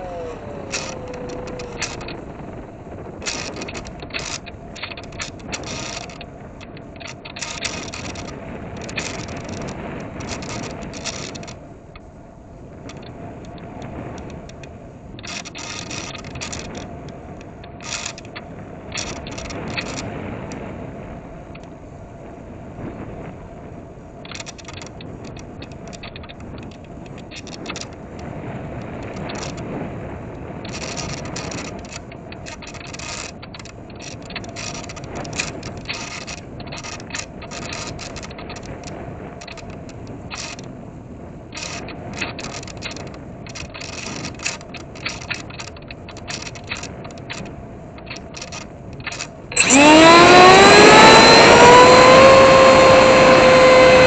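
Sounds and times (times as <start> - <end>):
clicking and rattling bursts: 0.0 - 12.1, 12.8 - 20.2, 24.2 - 29.8, 30.6 - 40.8, 41.5 - 54.0
small electric motor and propeller: 0.0 - 54.0.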